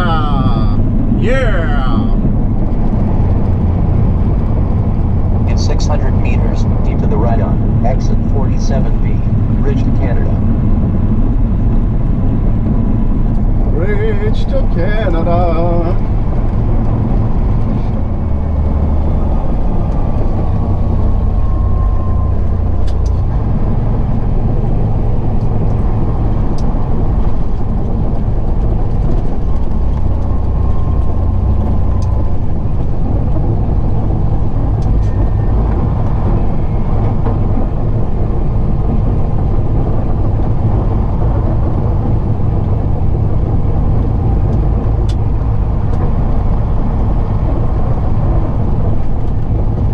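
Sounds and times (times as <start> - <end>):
diesel truck engine droning: 0.0 - 49.9
road noise: 0.0 - 49.9.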